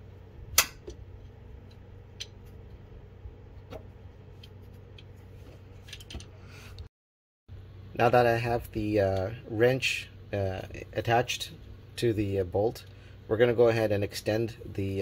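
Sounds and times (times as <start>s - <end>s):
steady low hum: 0.0s - 6.9s, 7.5s - 15.0s.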